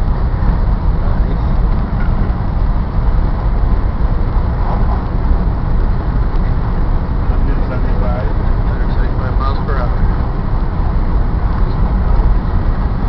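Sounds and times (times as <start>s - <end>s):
train cabin rumble and rushing: 0.0s - 13.0s.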